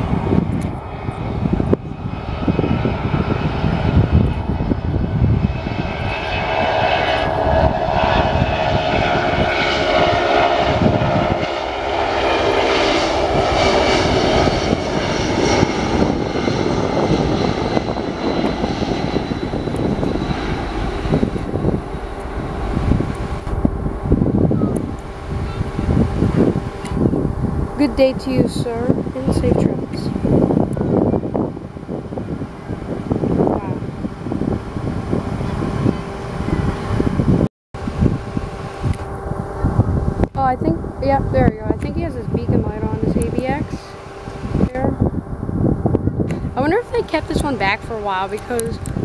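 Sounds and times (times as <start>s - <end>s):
jet engines at takeoff: 0.0s - 49.0s.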